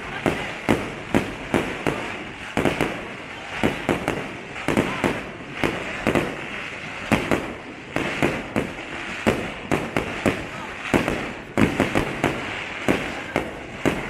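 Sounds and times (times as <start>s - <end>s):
fireworks bangs: 0.0s - 14.0s
fireworks crackling and rumble: 0.0s - 14.0s.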